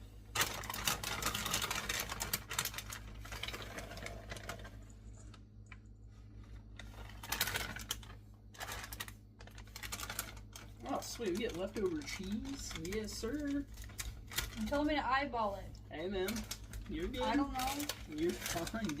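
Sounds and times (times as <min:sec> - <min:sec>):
plastic bag crinkling and rustling: 0:00.3 - 0:19.0.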